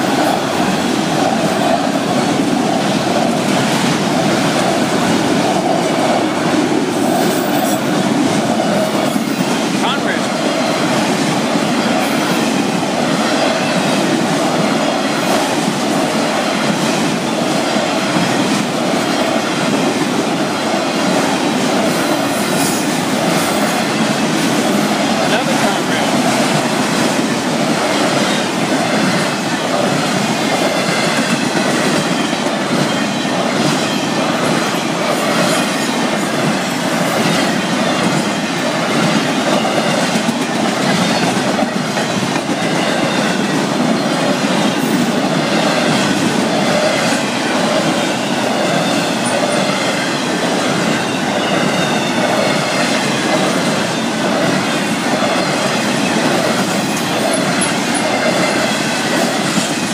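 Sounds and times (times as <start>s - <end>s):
train wheels rumbling over rails: 0.0s - 59.9s.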